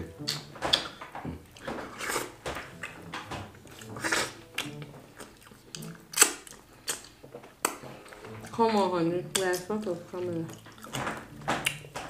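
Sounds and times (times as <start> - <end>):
wet chewing and smacking: 0.2 - 8.6, 9.2 - 12.0.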